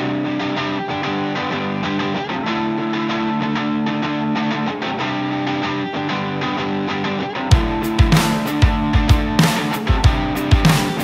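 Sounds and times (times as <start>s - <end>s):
strummed guitar music: 0.0s - 11.0s.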